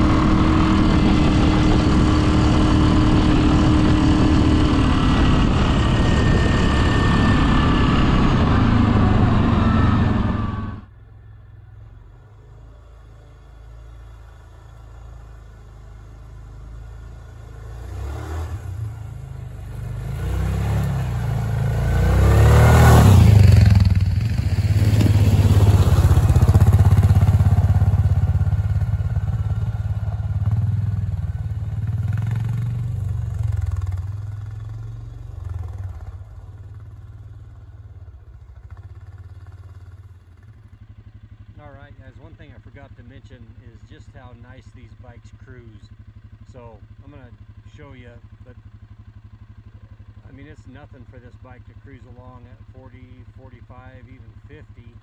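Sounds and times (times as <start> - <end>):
engine passing by: 0.0 - 47.2.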